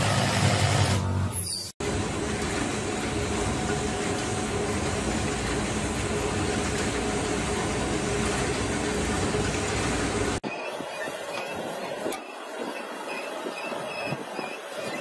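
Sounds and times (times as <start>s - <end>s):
wood veneer machine running: 1.8s - 14.0s.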